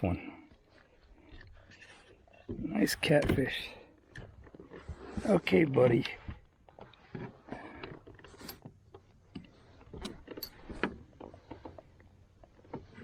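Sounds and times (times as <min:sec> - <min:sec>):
fishing gear clicks and rattles: 0:00.0 - 0:13.0.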